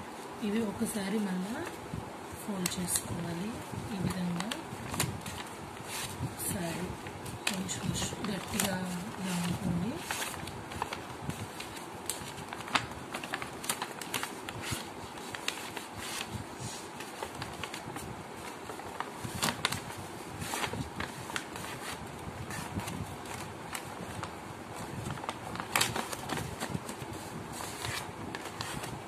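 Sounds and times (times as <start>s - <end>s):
paper rustling and crackling: 2.6s - 29.0s.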